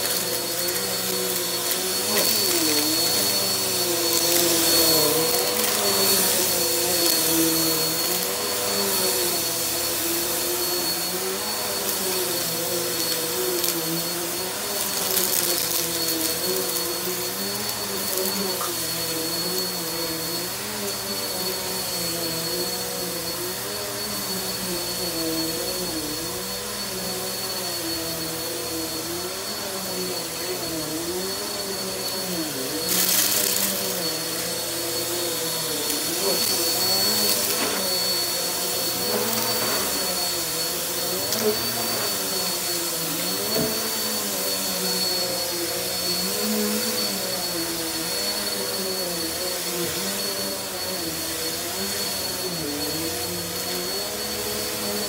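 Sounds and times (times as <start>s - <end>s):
vacuum cleaner running on carpet: 0.0s - 55.0s.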